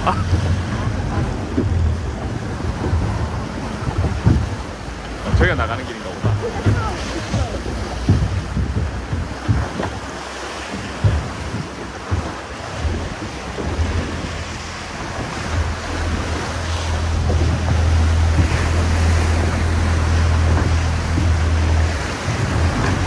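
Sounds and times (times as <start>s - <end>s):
boat engine drone: 0.0s - 23.0s
rushing sea water: 0.0s - 23.0s
splashing knocks: 0.0s - 23.0s
wind buffeting microphone: 0.0s - 23.0s.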